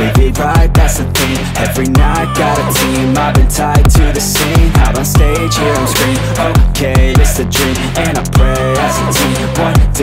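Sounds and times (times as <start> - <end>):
deep sliding bass notes: 0.0 - 10.0
electronic hip-hop beat: 0.0 - 10.0.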